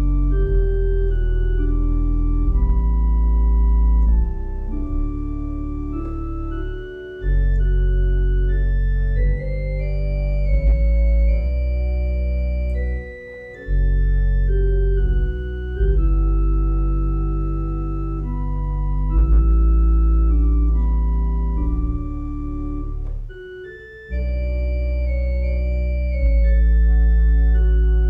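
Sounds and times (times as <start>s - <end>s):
organ playing sustained chords: 0.0s - 28.0s.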